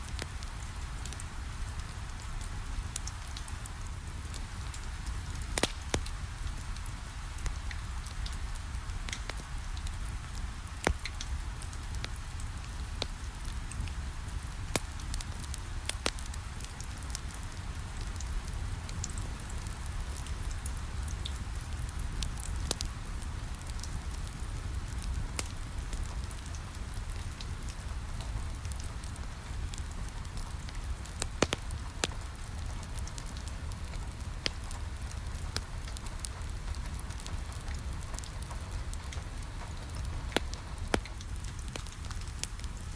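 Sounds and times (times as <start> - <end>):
fireplace crackling and popping: 0.0 - 42.9
rain pattering on a window: 0.0 - 42.9.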